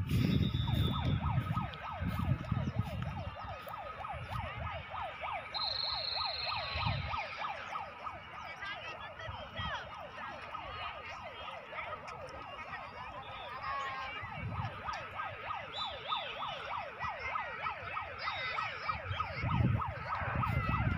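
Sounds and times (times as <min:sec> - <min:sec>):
siren yelping: 0:00.0 - 0:20.9.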